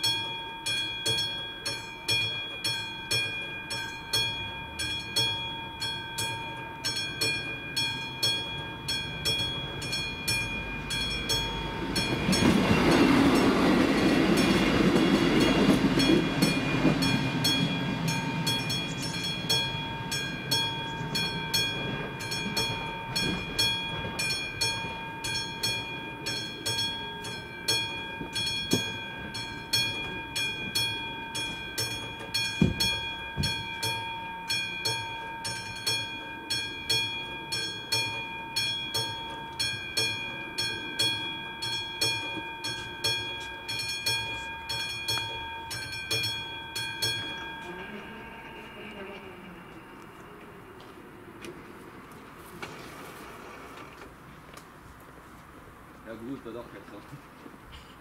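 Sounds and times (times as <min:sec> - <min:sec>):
level crossing bell ringing: 0:00.0 - 0:50.8
train rumbling: 0:00.0 - 0:58.0.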